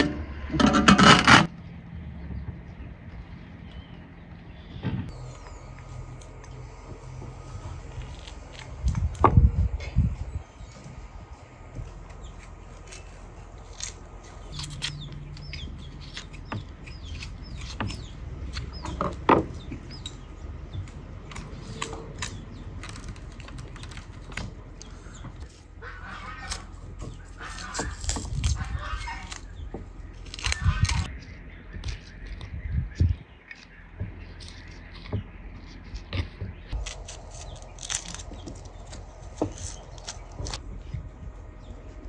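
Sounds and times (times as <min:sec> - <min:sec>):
low steady hum: 0:00.0 - 0:42.0
small birds chirping: 0:02.1 - 0:42.0.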